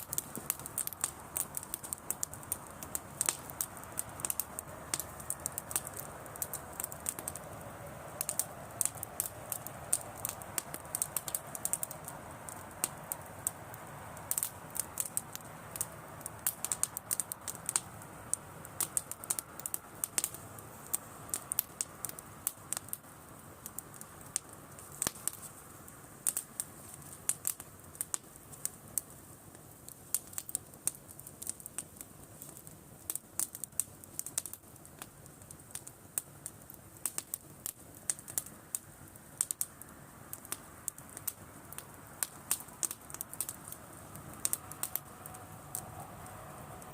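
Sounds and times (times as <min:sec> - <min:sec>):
campfire crackling and popping: 0:00.0 - 0:46.9
hiss of burning: 0:00.0 - 0:46.9.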